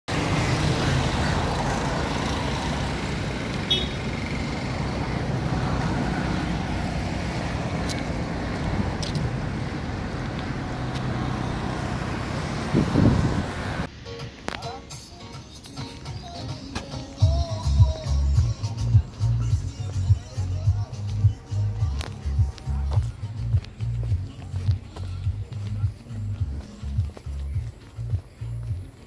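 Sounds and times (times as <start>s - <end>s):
road traffic rumble: 0.1s - 29.0s.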